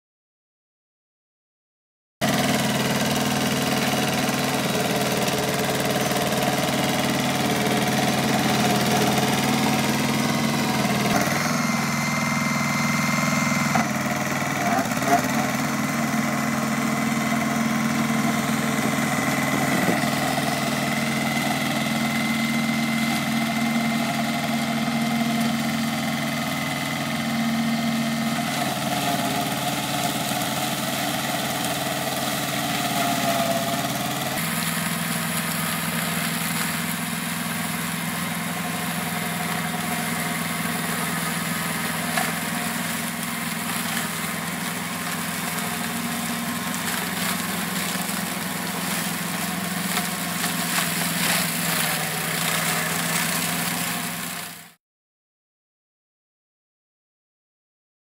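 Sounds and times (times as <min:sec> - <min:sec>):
tractor engine running: 0:02.2 - 0:54.7
flail mower cutting grass: 0:02.2 - 0:54.8.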